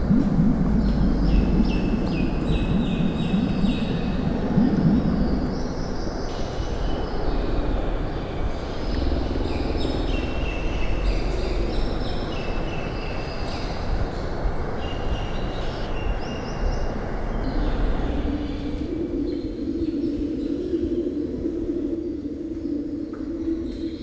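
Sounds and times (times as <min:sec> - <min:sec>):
low rumbling noise: 0:00.0 - 0:24.0.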